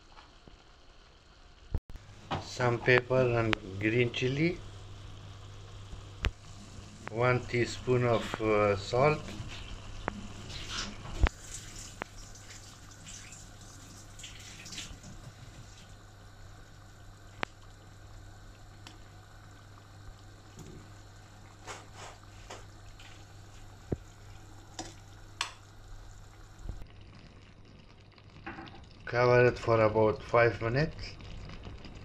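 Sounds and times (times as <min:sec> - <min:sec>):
steady low hum: 0:00.8 - 0:28.1
sauce simmering in a pan: 0:02.8 - 0:32.0.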